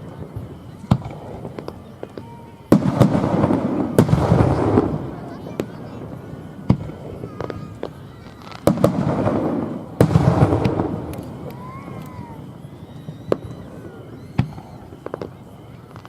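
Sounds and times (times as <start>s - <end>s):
faint firework whistle: 0.0s - 16.0s
fireworks bursting with bangs: 0.0s - 16.0s
rolling booms: 0.0s - 16.0s.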